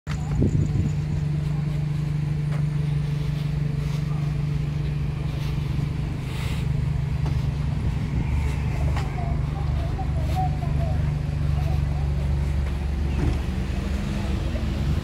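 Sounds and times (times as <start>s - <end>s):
car engines idling: 0.1s - 15.0s.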